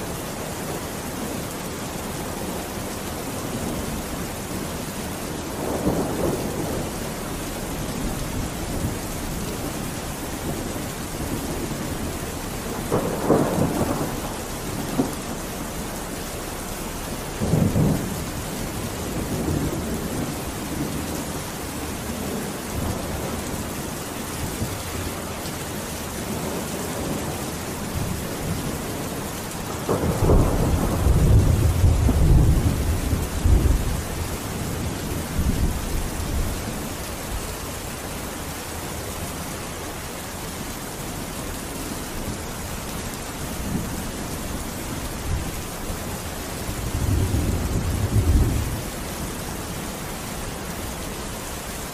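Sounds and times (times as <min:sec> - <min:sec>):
steady rain: 0:00.0 - 0:51.9
thunder rumbling: 0:02.3 - 0:25.5, 0:26.2 - 0:38.4, 0:41.2 - 0:49.4.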